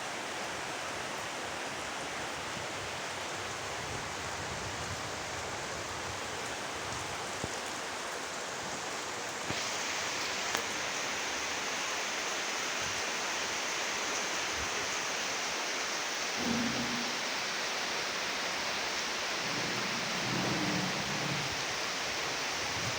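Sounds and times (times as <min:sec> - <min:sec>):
rain falling: 0:00.0 - 0:22.9.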